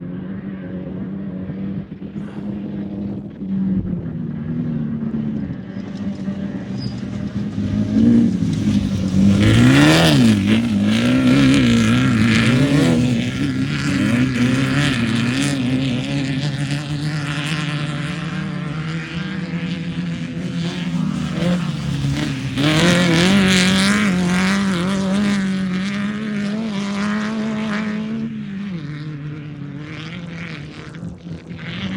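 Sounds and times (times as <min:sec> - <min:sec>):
off-road vehicle engine revving: 0:00.0 - 0:31.9.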